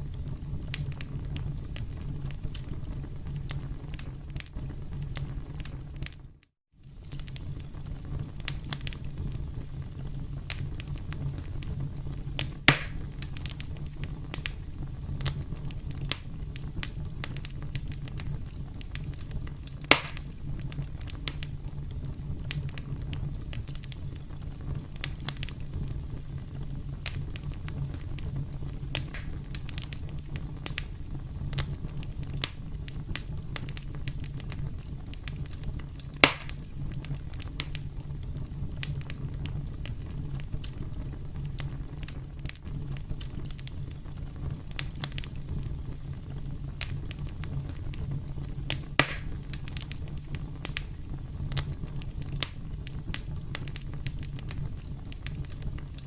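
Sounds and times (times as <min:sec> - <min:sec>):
campfire crackling: 0:00.0 - 0:56.0
loud fire pops: 0:00.0 - 0:56.0
low rumble of flames: 0:00.0 - 0:56.0.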